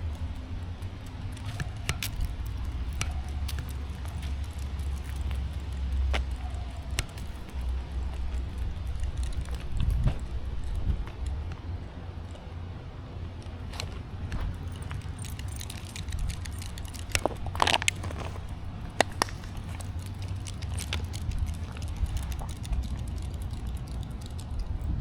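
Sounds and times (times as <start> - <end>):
footsteps on woodland trail: 0.0 - 12.5, 13.2 - 24.8
steady low rumble: 0.0 - 25.0.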